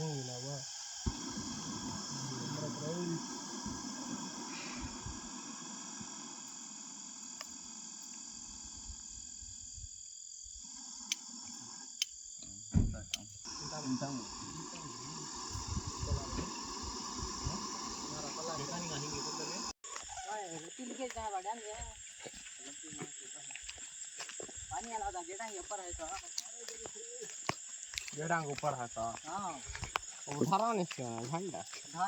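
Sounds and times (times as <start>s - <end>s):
crickets and insects chirring: 0.0s - 32.0s.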